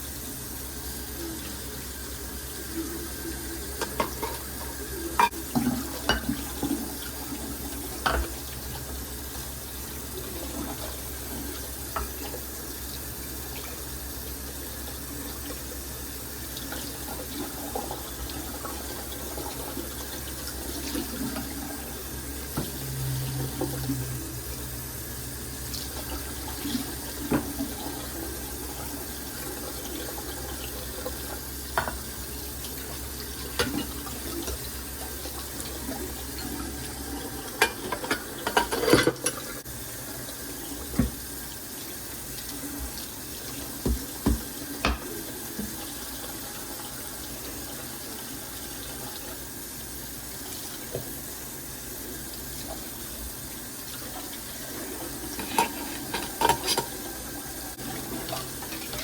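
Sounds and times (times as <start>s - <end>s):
water running from sink tap: 0.0s - 59.0s.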